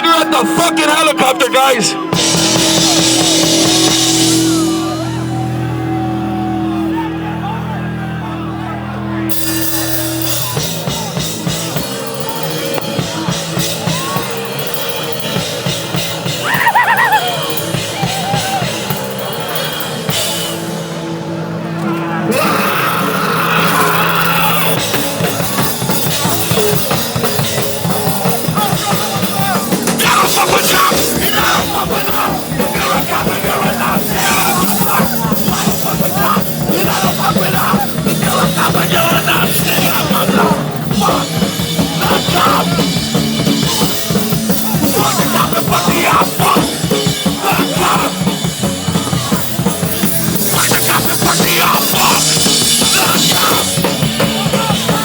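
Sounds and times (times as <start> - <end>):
fast drums: 0.0 - 6.1, 9.3 - 21.2, 22.3 - 55.0
punk band playing live: 0.0 - 55.0.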